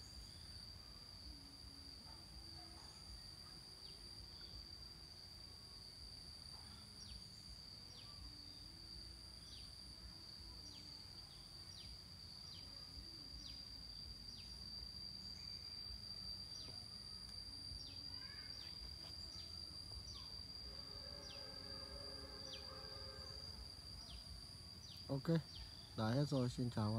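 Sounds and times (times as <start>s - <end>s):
high insect drone: 0.0s - 26.9s.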